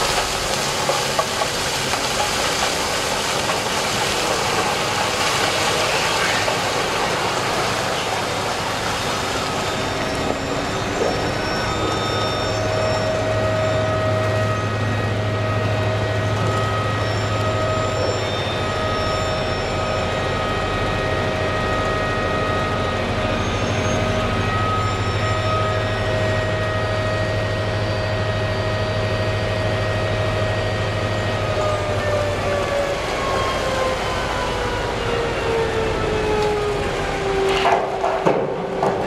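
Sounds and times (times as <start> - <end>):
dump truck mechanical whine: 0.0 - 39.0.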